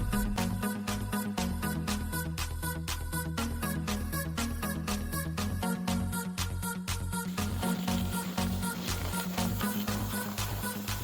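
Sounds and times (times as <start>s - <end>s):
electronic music with pulsing bass: 0.0s - 11.0s.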